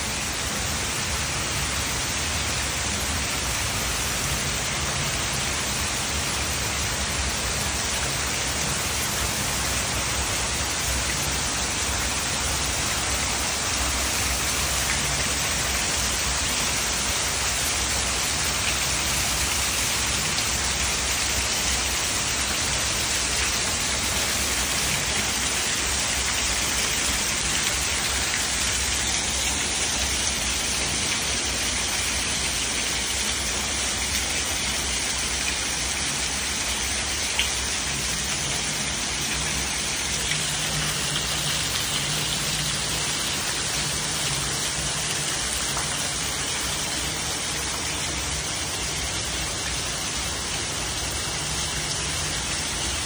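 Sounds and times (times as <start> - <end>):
heavy rain falling: 0.0 - 53.0
runoff pouring off a roof: 0.0 - 53.0.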